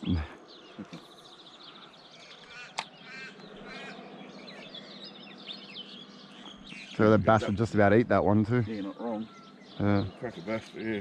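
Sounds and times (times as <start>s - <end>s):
bird lower chirps: 0.0s - 7.2s, 8.6s - 11.0s.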